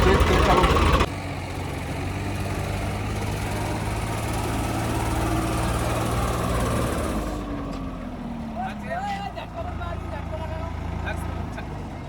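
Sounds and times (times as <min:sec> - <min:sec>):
diesel tractor engines running: 0:00.0 - 0:12.0.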